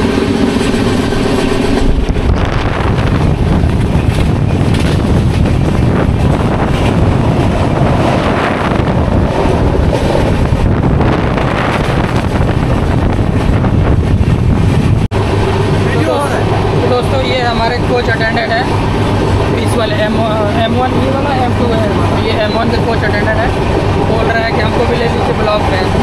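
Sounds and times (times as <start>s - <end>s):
train running noise: 0.0s - 26.0s
wind rushing over microphone: 0.0s - 26.0s.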